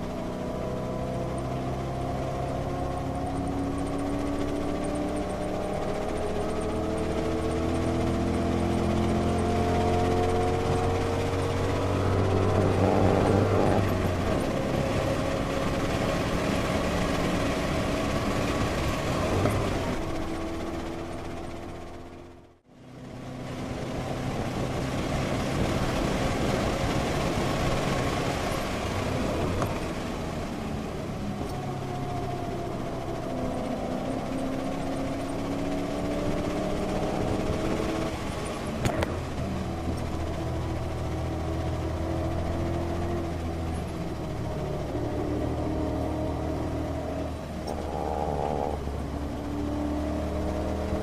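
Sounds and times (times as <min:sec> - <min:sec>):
car engine revving: 0:00.0 - 0:51.0
tyre and road noise: 0:00.0 - 0:51.0.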